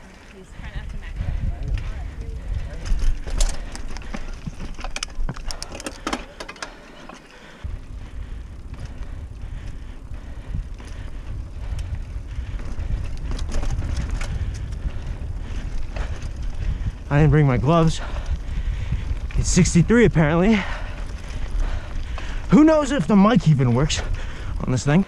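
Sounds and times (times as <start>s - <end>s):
bike clicks and rattles: 0.0s - 25.0s
tyres and wind rumble: 0.0s - 25.0s.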